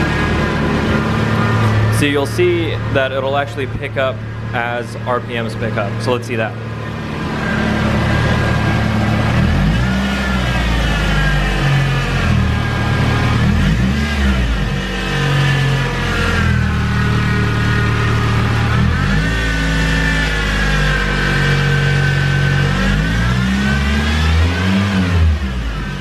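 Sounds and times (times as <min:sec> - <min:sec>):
car engine revving: 0:00.0 - 0:26.0
high whine: 0:00.0 - 0:26.0.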